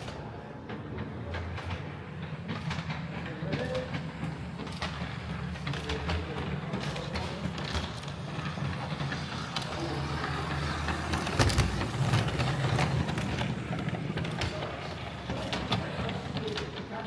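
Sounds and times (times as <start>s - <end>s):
train rumbling along track: 0.0s - 17.0s
wheels clicking on rails: 0.0s - 17.0s.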